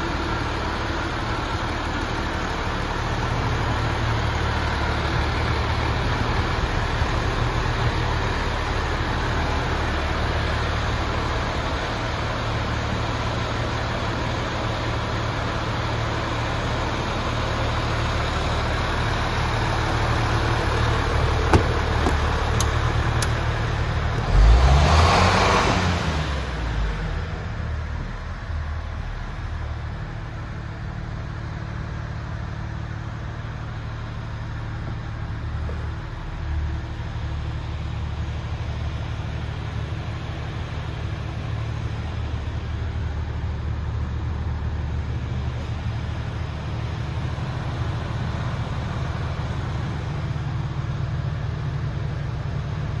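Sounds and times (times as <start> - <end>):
diesel engine idling: 0.0 - 53.0.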